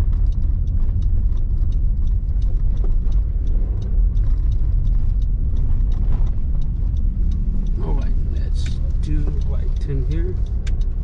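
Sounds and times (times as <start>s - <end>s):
engine and tyre rumble: 0.0s - 11.0s.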